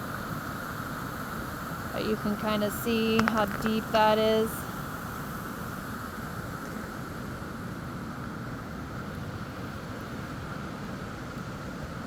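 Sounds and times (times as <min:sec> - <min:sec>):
rushing storm runoff water: 0:00.0 - 0:12.0.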